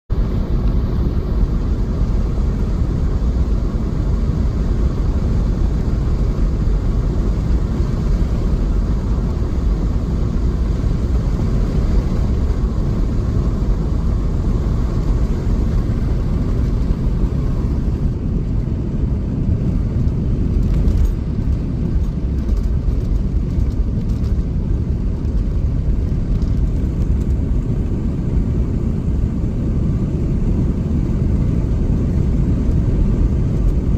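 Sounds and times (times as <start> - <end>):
car road and engine rumble: 0.1 - 33.9.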